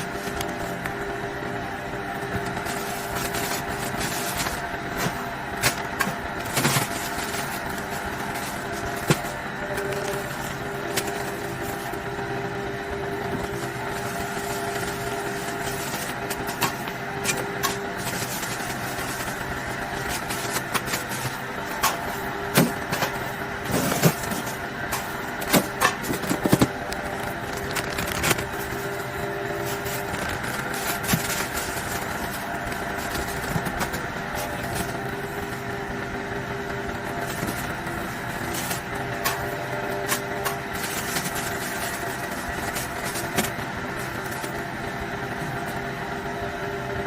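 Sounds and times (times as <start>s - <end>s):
motor hum: 0.0s - 47.0s.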